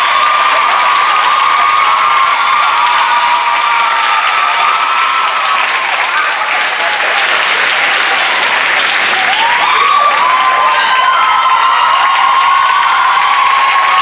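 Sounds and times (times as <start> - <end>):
audience applauding: 0.0 - 14.0
high-pitched cheers: 0.0 - 14.0.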